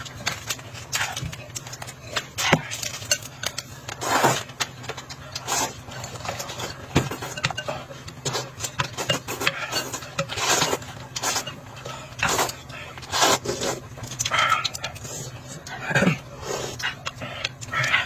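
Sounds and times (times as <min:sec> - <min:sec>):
eating noises: 0:00.0 - 0:18.0
utensils scraping a bowl: 0:00.3 - 0:15.8.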